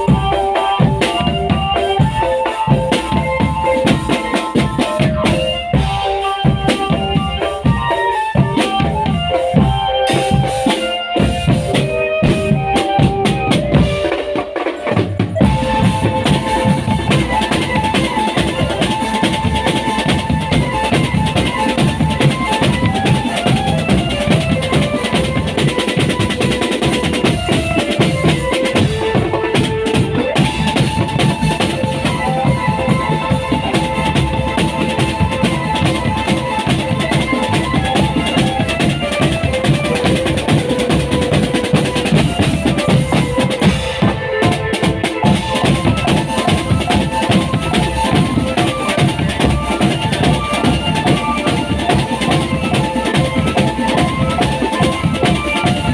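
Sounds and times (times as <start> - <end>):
melody on pitched instruments: 0.0 - 55.9
snare and bass drums: 0.0 - 55.9.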